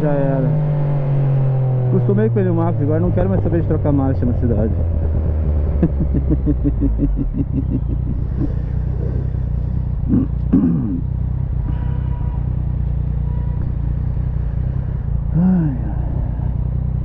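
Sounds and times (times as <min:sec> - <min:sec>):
motorcycle engine running: 0:00.0 - 0:17.0
road and wind rumble: 0:00.0 - 0:17.0.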